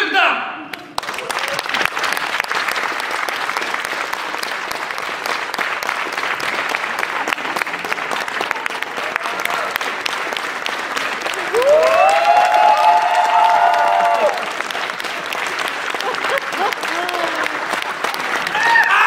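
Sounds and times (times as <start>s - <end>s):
audience applauding: 0.7s - 19.0s.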